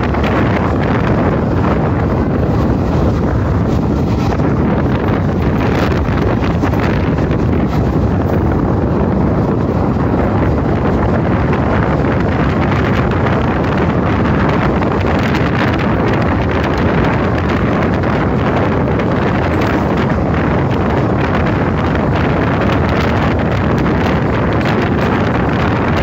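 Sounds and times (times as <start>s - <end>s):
train running on track: 0.0s - 26.0s
wind buffeting microphone: 0.0s - 26.0s.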